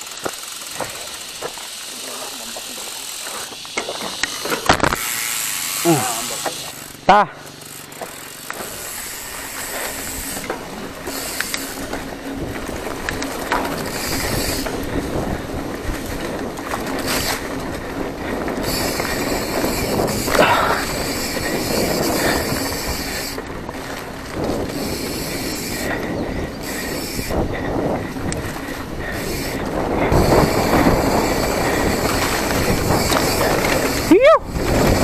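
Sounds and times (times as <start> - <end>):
bike frame and chain rattling: 0.0 - 35.0
tyres rumbling on dirt: 0.0 - 35.0.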